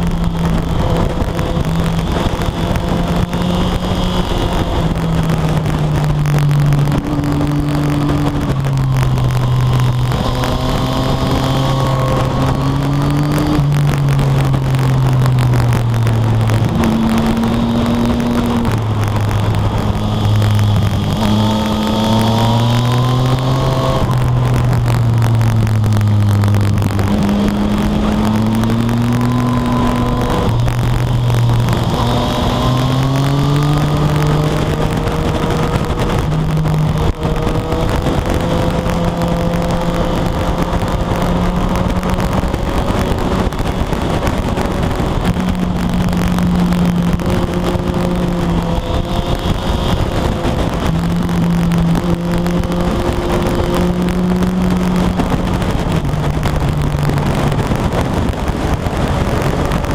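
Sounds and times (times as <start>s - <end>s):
motorcycle engine revving: 0.0s - 59.9s
wind rushing over microphone: 0.0s - 59.9s.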